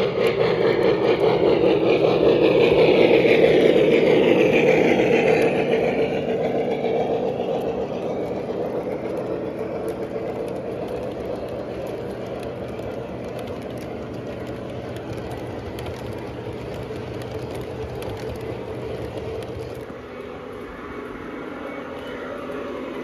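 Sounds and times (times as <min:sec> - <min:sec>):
model train engine sound: 0:00.0 - 0:23.0
model train wheel rumble: 0:00.0 - 0:23.0.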